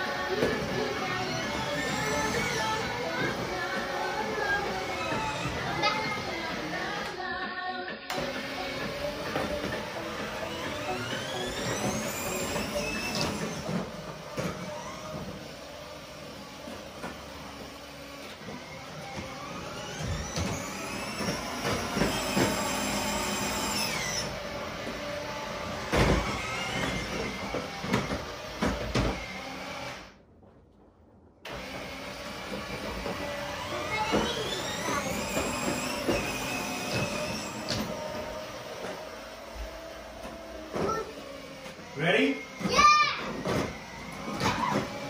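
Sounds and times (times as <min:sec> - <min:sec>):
toy car motor whining: 0:00.1 - 0:07.1, 0:08.1 - 0:30.2, 0:31.5 - 0:45.0
plastic wheels rumbling on wood: 0:00.2 - 0:06.9, 0:08.7 - 0:29.4, 0:32.2 - 0:45.0.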